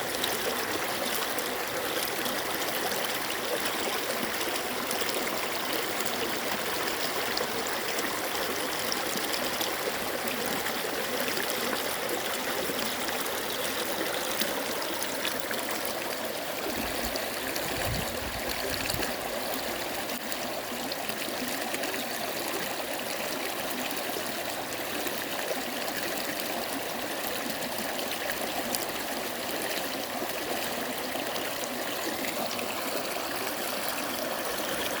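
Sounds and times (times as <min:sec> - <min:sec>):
stream flowing over rocks: 0:00.0 - 0:35.0.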